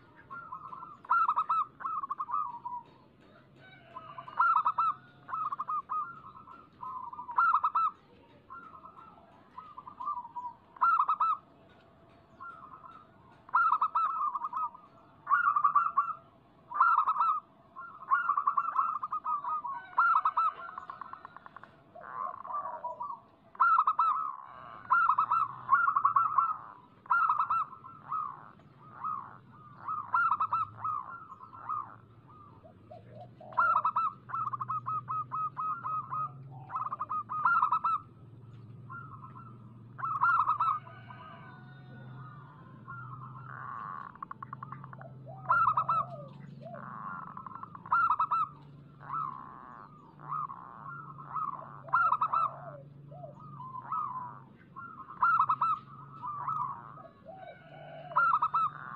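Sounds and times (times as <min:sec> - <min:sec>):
doves cooing: 0:00.0 - 0:58.9.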